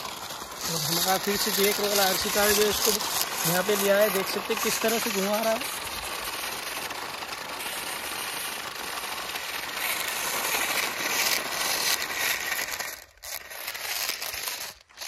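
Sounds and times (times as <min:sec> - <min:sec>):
toy car motors whirring: 0:00.0 - 0:15.0
wheels scrabbling on dirt: 0:00.0 - 0:15.0.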